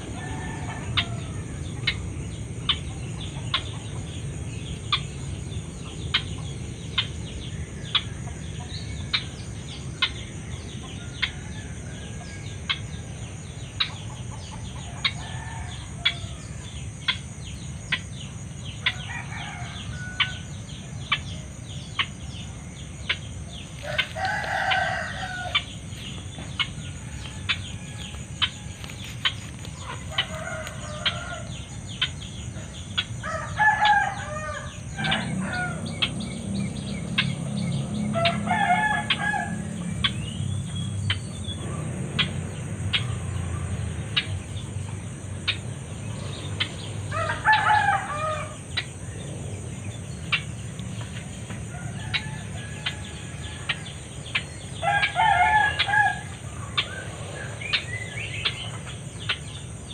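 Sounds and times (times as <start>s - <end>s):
clucking fowl-like calls: 0.0s - 36.4s, 37.1s - 40.2s, 45.3s - 49.1s, 50.2s - 59.8s.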